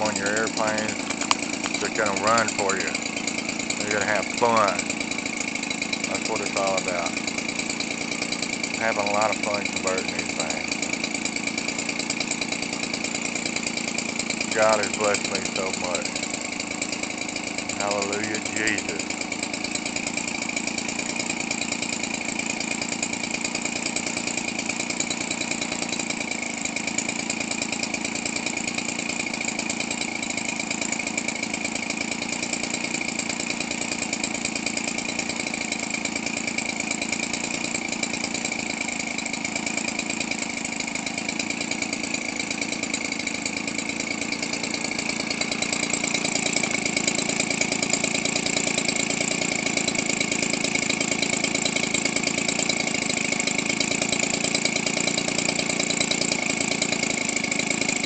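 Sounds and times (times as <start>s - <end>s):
small two-stroke engine idling: 0.0s - 58.0s.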